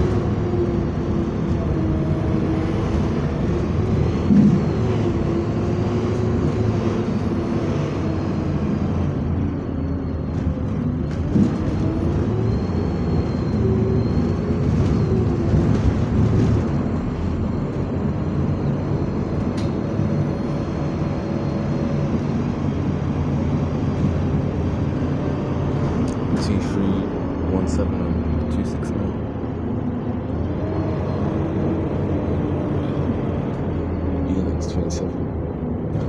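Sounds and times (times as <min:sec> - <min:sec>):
bus engine running: 0:00.0 - 0:36.0.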